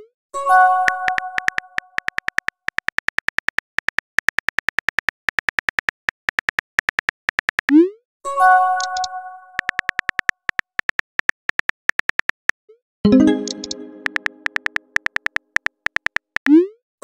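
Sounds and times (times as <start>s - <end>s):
smartphone keyboard clicks: 0.9s - 7.7s, 8.8s - 12.6s, 13.4s - 16.5s.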